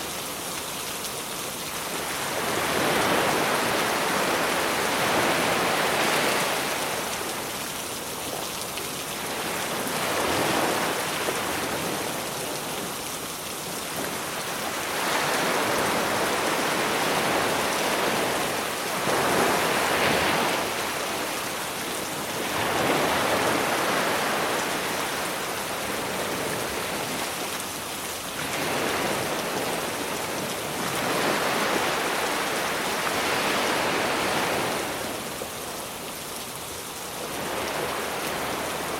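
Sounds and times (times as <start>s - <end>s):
sea waves washing onto beach: 0.0s - 38.9s.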